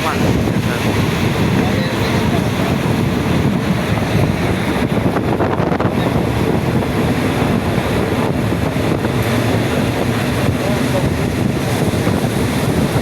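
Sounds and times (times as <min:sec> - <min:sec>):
train low rumble: 0:00.0 - 0:13.0
wind buffeting microphone: 0:00.0 - 0:13.0.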